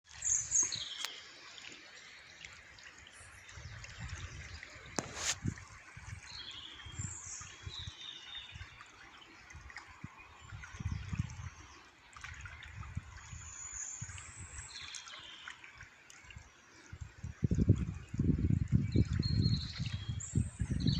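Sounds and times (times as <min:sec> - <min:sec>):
water trickling and splashing: 0:00.0 - 0:20.9.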